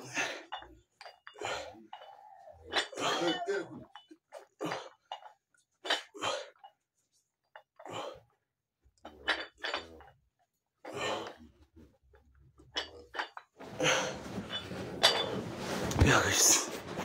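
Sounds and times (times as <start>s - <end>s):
dumbbell plates clinking: 0.0s - 6.8s, 9.0s - 10.2s, 10.8s - 16.5s.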